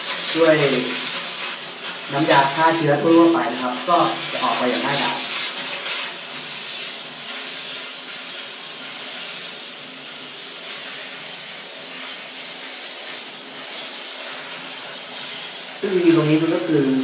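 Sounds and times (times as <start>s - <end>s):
steam cleaner hissing: 0.0s - 17.0s.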